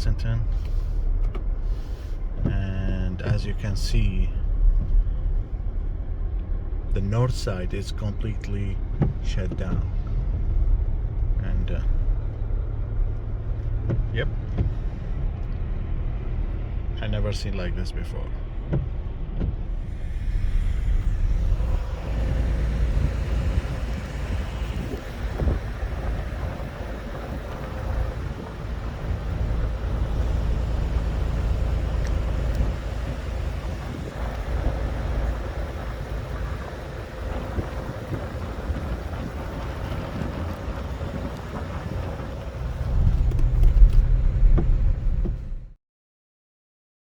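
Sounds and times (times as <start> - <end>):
car engine and tyre rumble: 0.0 - 45.8.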